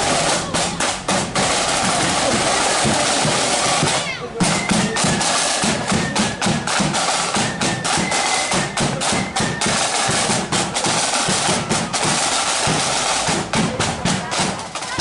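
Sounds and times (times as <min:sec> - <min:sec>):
flute melody: 0:00.0 - 0:13.4
snare and bass drums: 0:00.0 - 0:15.0.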